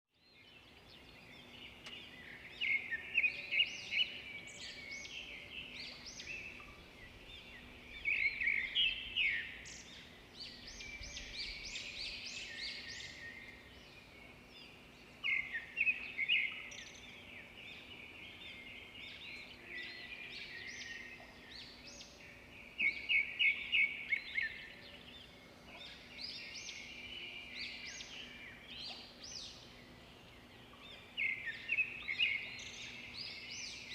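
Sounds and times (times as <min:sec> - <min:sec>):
songbird chirping: 0:00.1 - 0:33.9.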